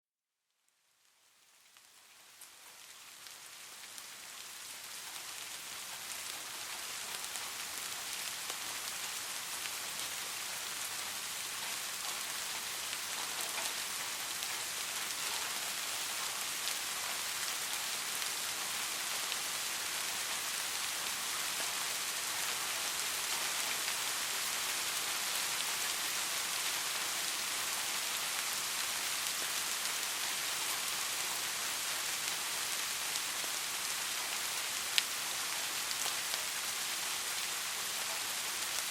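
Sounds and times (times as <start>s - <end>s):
soft rain pattering: 0.4s - 38.9s.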